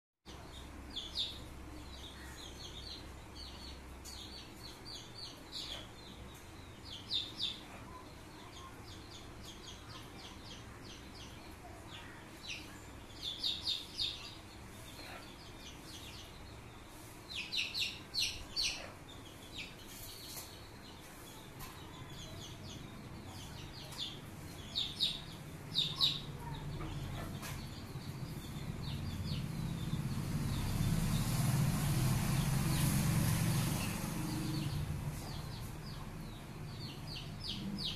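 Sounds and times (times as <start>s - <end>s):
chicks peeping: 0.3s - 37.9s.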